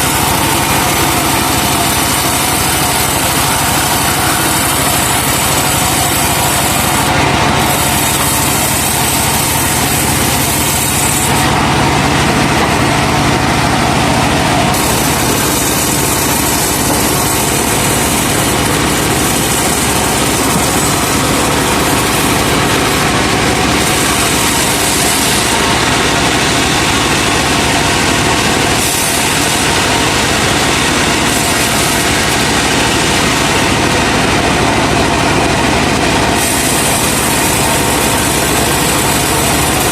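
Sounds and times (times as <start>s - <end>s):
sawmill cutting log: 0.0s - 39.9s.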